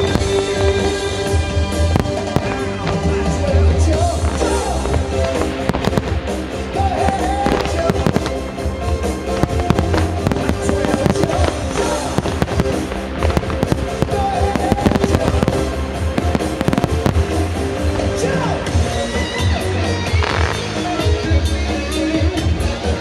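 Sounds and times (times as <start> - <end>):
fireworks bursting: 0.0 - 21.2
music playing: 0.0 - 23.0.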